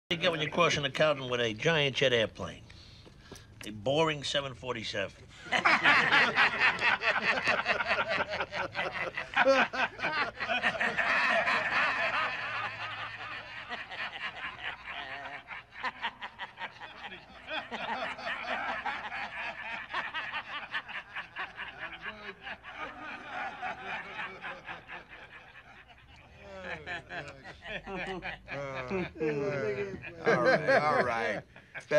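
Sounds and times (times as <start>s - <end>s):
men laughing: 5.3s - 31.9s.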